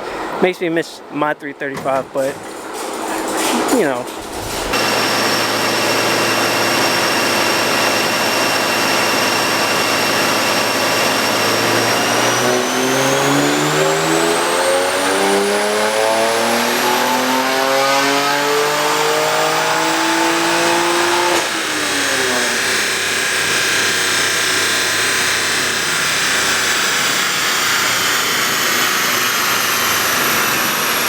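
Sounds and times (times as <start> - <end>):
turbo whine: 4.6 - 31.0
car engine revving: 4.8 - 31.0.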